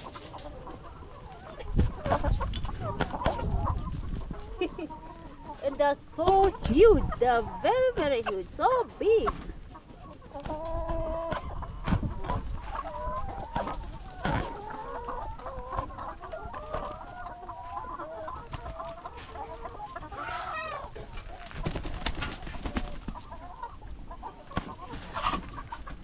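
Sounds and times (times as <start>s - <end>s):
hens clucking: 0.0s - 26.0s.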